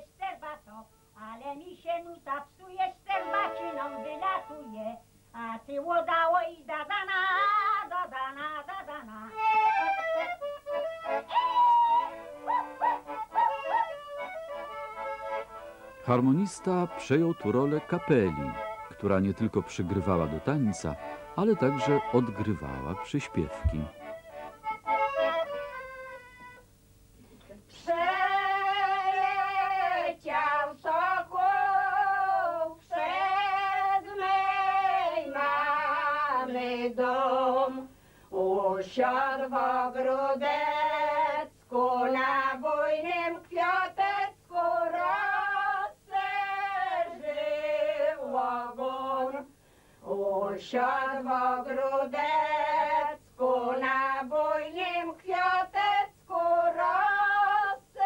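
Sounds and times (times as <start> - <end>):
women singing folk song unaccompanied: 0.0 - 16.8, 27.3 - 58.0.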